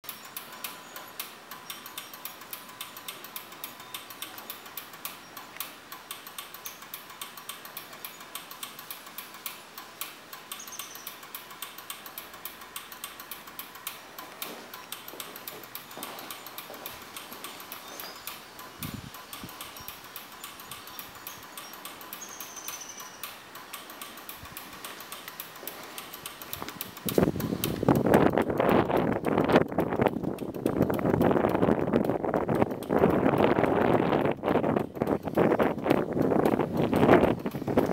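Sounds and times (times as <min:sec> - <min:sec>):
faint steady whine: 0:00.0 - 0:37.9
rapid flasher ticking: 0:00.0 - 0:37.9.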